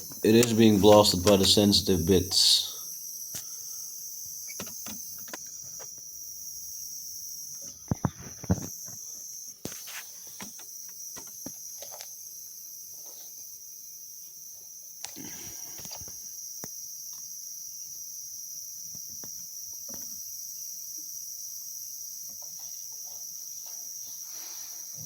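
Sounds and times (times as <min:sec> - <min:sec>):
humidifier high-pitched hiss: 0:00.0 - 0:25.0.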